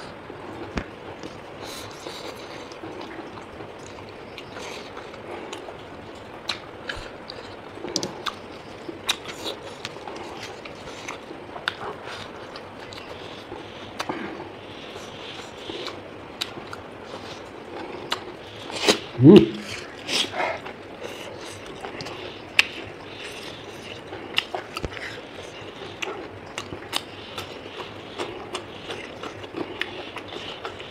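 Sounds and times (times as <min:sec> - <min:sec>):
quiet chewing: 0:00.0 - 0:30.9.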